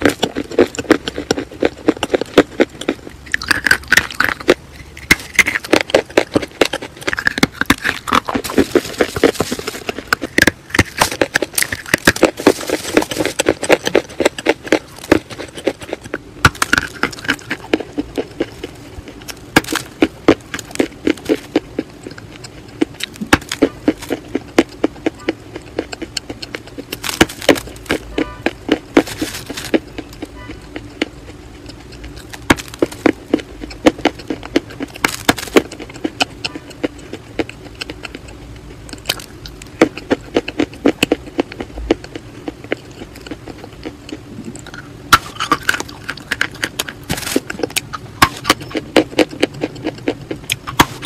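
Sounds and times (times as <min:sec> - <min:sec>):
chalk crunching in mouth: 0:00.0 - 0:51.0
wet mouth sounds: 0:00.0 - 0:51.0.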